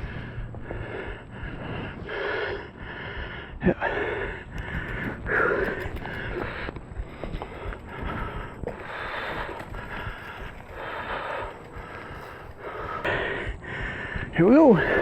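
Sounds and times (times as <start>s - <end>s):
man breathing heavily: 0.0s - 15.0s.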